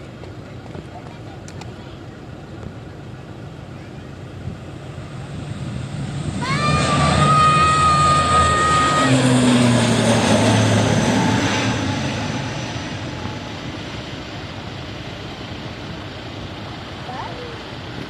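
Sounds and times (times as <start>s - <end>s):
propeller drone of passing plane: 0.0s - 18.0s
high turbine whine: 2.1s - 18.0s.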